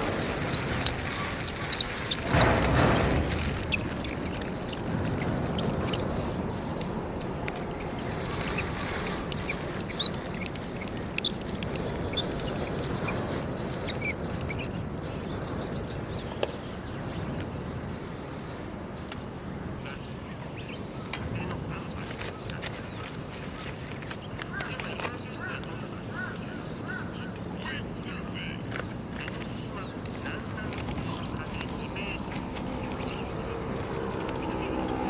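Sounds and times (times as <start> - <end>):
wood fire crackling and popping: 0.0 - 19.5, 21.0 - 35.0
high-pitched insect trill: 0.0 - 35.0.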